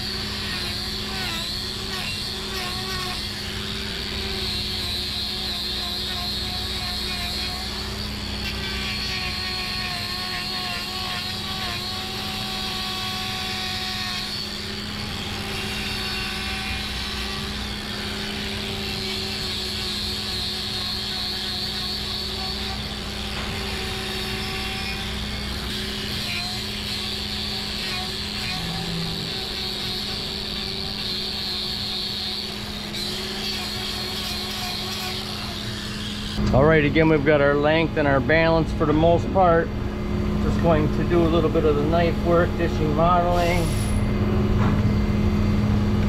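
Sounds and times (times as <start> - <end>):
angle grinder grinding hoof: 0.0 - 45.1.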